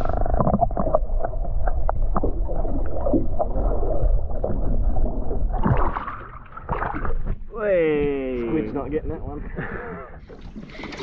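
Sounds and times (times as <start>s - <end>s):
muffled underwater water rumble: 0.0s - 11.0s.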